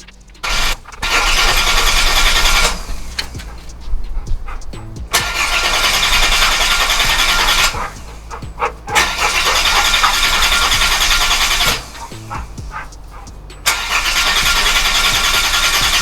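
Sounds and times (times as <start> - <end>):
starter motor cranking engine: 0.0 - 16.0.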